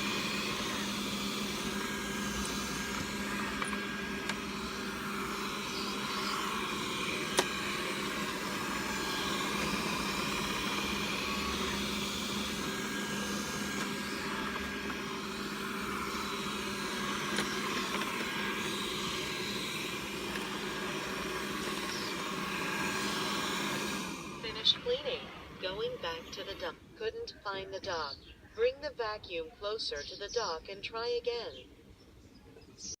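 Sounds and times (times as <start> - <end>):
robot vacuum motor hum: 0.0 - 26.9.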